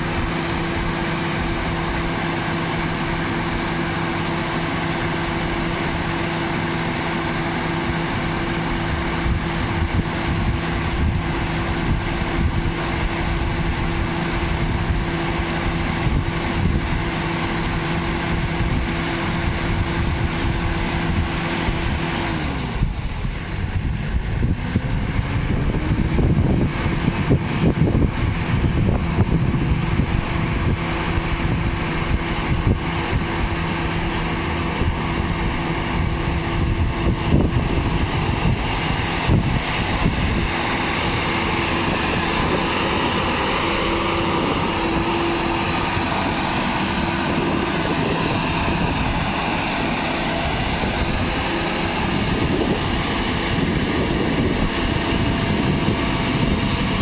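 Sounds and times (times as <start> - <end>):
harvesting machine engine rumbling: 0.0 - 57.0.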